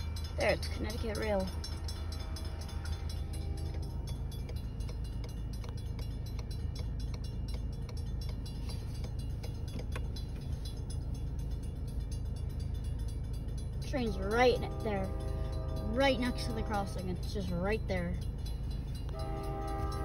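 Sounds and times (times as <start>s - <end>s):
car idling rumble: 0.0s - 20.0s
crossing warning bell ringing: 0.0s - 20.0s.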